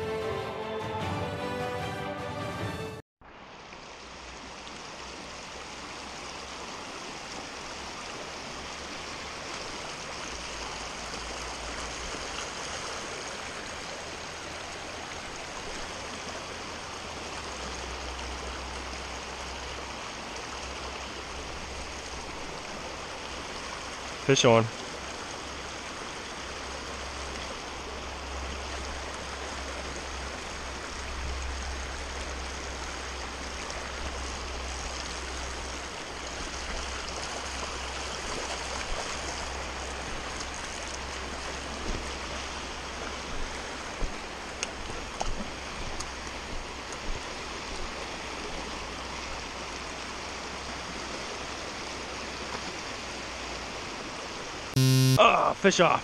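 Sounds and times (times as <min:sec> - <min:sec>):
water rushing over rocks: 0:03.2 - 0:54.7.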